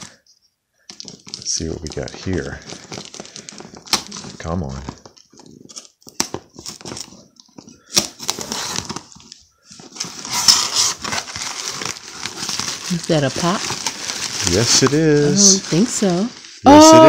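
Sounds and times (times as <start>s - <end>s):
packing filler rustling: 0.8s - 16.6s.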